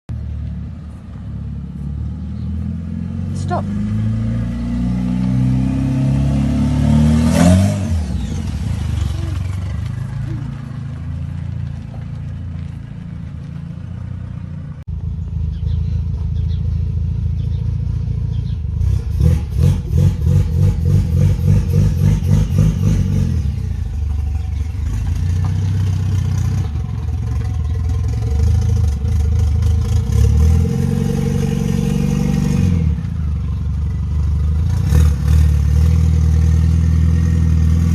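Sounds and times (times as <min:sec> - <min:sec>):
car engine revving: 0:01.7 - 0:14.6, 0:17.8 - 0:37.9.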